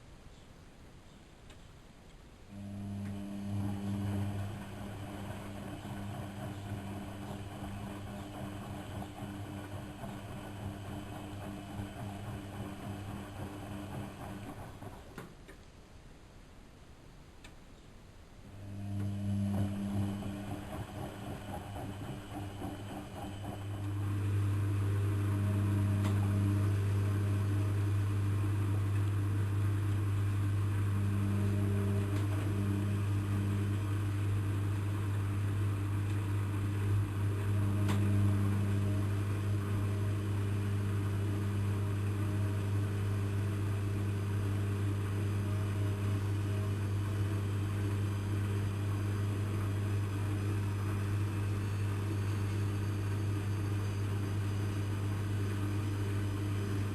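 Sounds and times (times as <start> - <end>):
washing machine drain pump humming: 2.5 - 15.3, 18.4 - 56.9.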